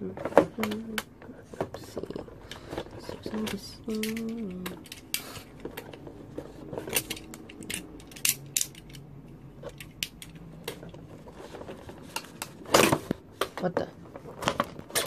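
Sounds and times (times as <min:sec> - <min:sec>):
plastic packaging clicks and scrapes: 0:00.1 - 0:15.0.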